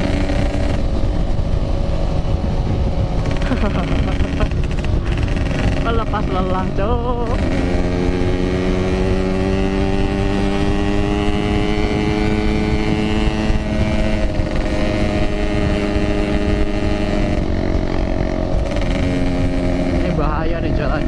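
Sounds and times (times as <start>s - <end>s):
low wind rumble: 0.0s - 21.0s
two-stroke motorcycle engine running: 0.0s - 21.0s.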